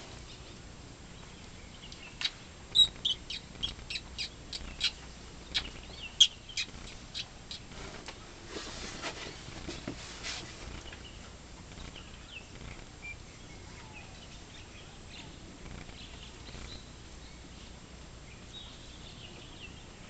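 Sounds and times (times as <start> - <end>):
bird chirping: 0.2 - 7.7, 10.7 - 20.0.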